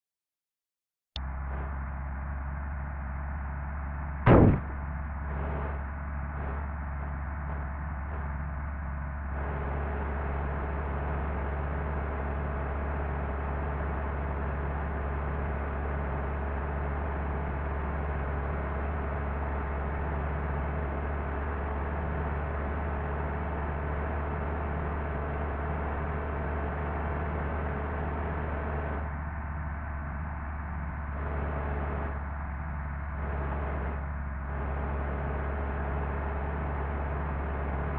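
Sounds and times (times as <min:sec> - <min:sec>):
bus engine drone: 0:01.2 - 0:37.9.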